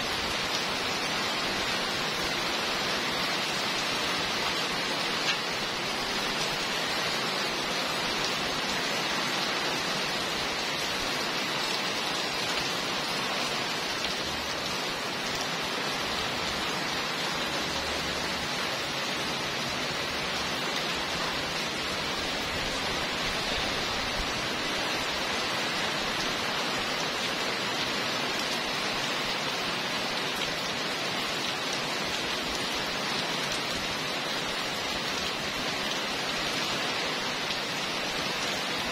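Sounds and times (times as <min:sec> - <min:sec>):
heavy rain on paving and cars: 0:00.0 - 0:38.9.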